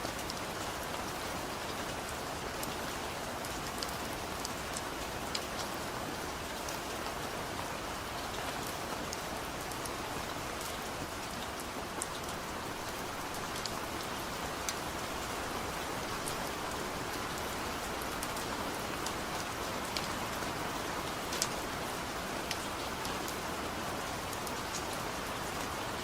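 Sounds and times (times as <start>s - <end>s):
heavy rain falling: 0.1s - 26.0s.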